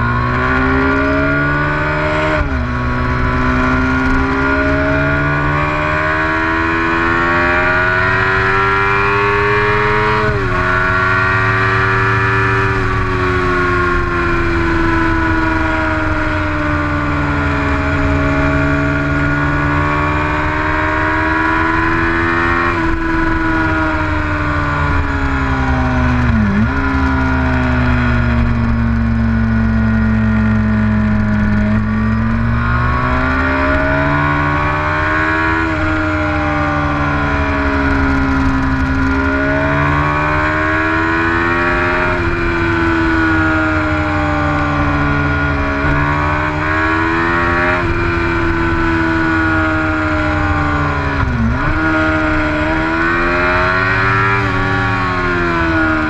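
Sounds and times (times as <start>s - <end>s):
motorcycle engine revving: 0.0s - 56.0s
road noise: 0.0s - 56.0s.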